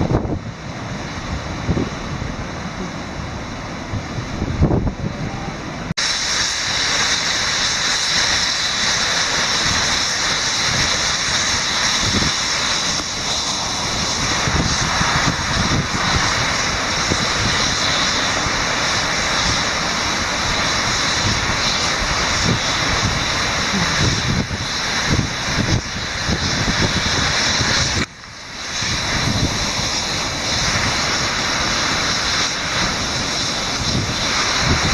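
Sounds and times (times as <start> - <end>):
waterfall rushing: 0.0 - 34.9
wind on microphone: 0.0 - 34.9.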